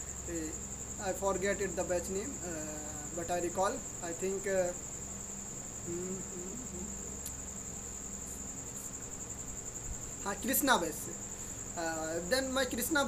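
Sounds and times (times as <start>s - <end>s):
cricket chirring: 0.0s - 13.0s.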